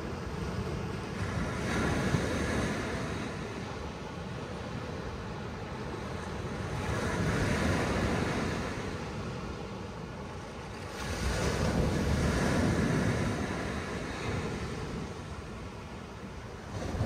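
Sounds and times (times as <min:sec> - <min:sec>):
ocean waves breaking on beach: 0:00.0 - 0:17.0
wind rumbling on microphone: 0:00.0 - 0:17.0.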